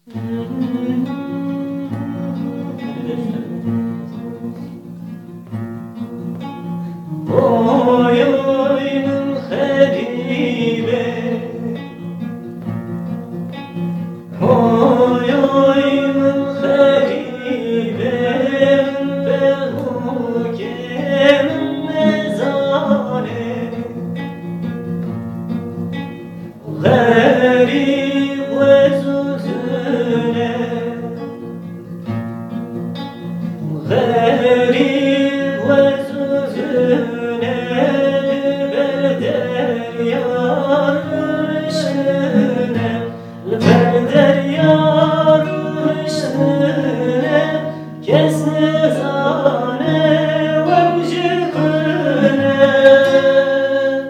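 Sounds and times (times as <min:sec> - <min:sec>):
man singing: 0:00.0 - 0:05.2, 0:06.2 - 0:12.3, 0:14.3 - 0:24.4, 0:26.4 - 0:31.6, 0:33.5 - 0:54.0
plucked string accompaniment: 0:00.0 - 0:54.0.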